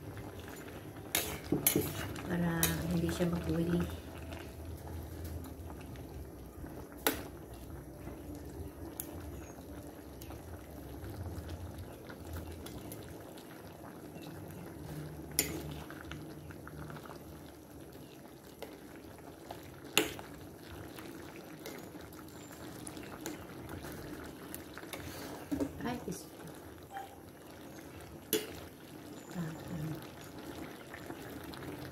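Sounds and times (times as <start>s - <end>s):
pot bubbling at a boil: 0.0s - 31.9s.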